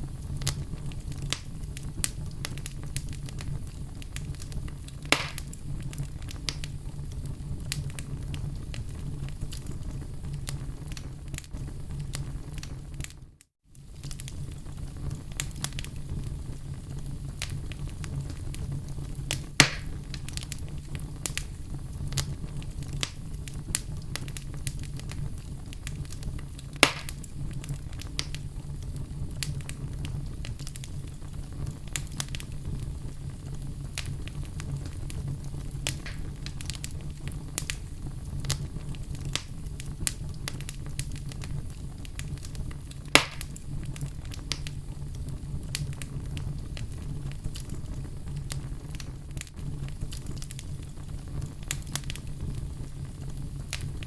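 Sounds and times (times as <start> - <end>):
fire crackling: 0.0 - 54.0
loud fire pops: 0.0 - 54.0.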